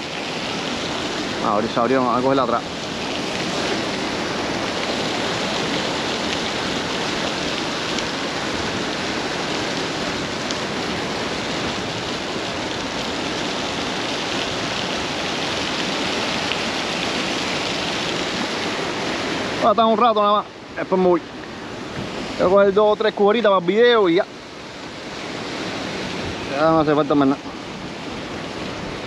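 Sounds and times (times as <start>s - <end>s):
surf washing: 0.0s - 29.0s.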